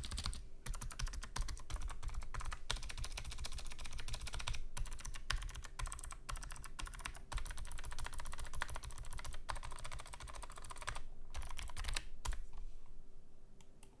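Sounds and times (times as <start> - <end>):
fast typing on clicky keyboard: 0.0 - 12.4.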